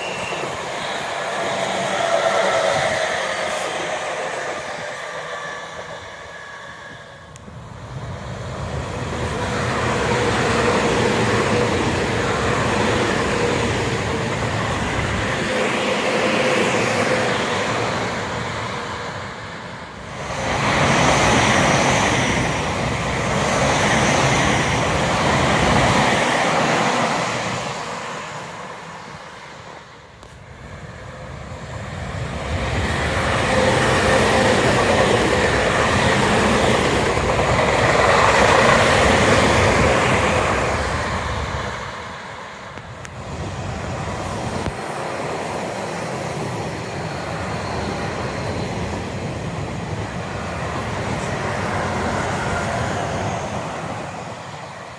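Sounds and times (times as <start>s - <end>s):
electric trains passing: 0.0s - 54.9s.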